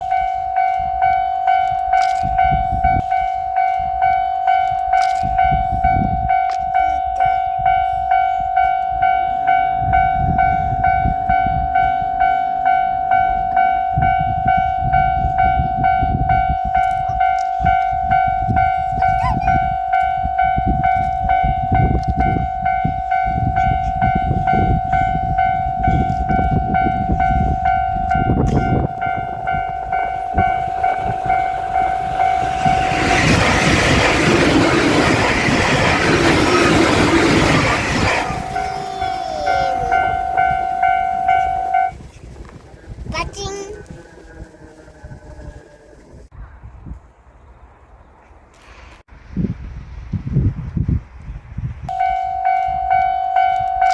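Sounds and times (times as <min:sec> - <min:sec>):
railroad crossing bell ringing: 0:00.0 - 0:42.1, 0:51.9 - 0:53.9.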